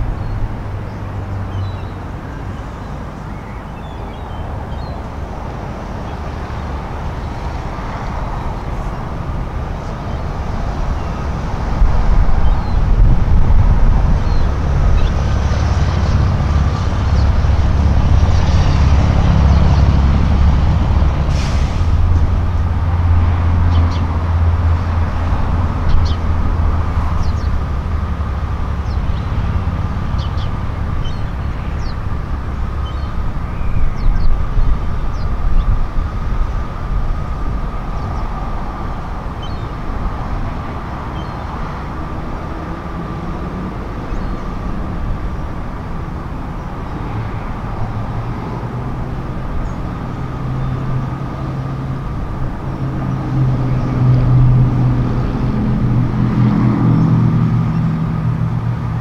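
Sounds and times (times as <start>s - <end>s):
wind buffeting microphone: 4.0s - 59.0s.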